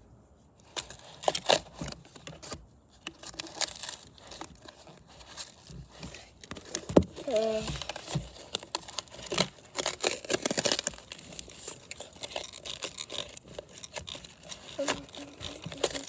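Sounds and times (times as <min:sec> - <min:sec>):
cardboard tearing and crinkling: 0:00.6 - 0:16.0.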